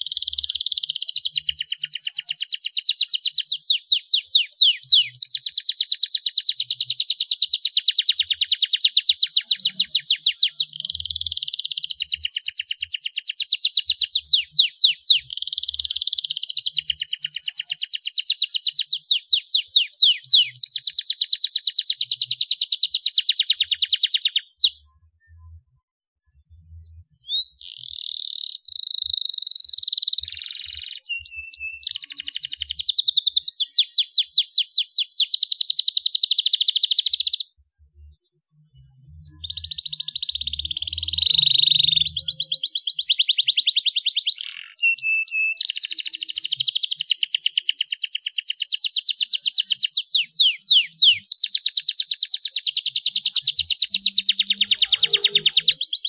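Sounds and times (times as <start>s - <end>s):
canary singing trills and whistles: 0.0s - 25.5s, 26.4s - 56.0s.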